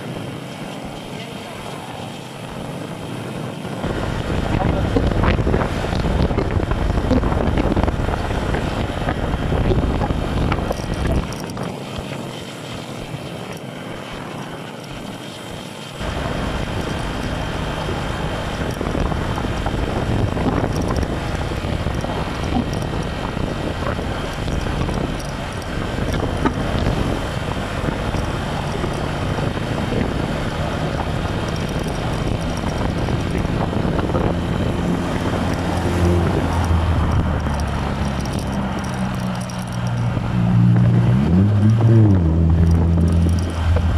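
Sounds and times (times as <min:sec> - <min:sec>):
road rumble: 0:00.0 - 0:43.9
wind buffeting a microphone: 0:00.0 - 0:43.9
motorcycle engine: 0:00.7 - 0:12.0, 0:16.0 - 0:43.9.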